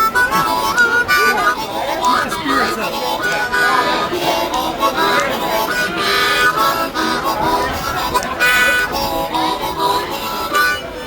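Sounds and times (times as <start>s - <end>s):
solo harmonica: 0.0s - 11.0s.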